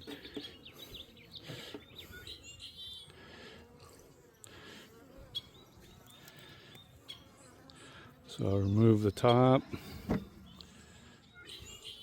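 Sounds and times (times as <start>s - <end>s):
bird chirp: 0.0s - 3.3s, 5.2s - 12.0s
honeybee swarm buzzing: 0.0s - 12.0s.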